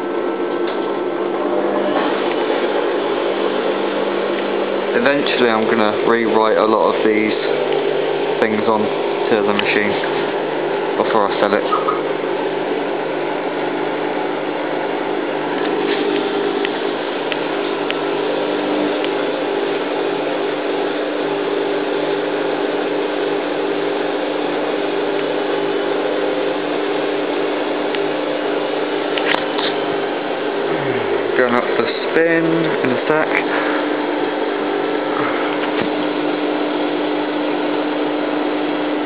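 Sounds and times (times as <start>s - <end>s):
washing machine running: 0.0s - 39.0s.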